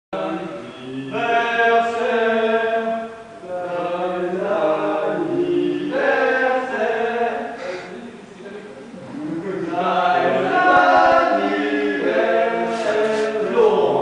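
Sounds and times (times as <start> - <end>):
voices chanting slowly: 0.2 - 14.0.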